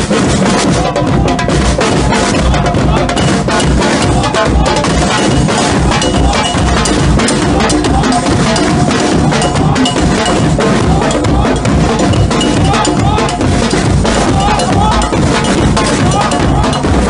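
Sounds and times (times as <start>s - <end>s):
marching snare and bass drums: 0.0s - 17.0s.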